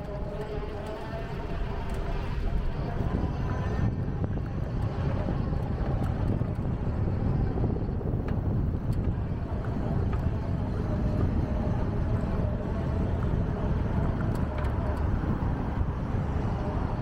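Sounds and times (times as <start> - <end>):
passing city traffic: 0.0 - 17.0
wind buffeting microphone: 0.0 - 17.0.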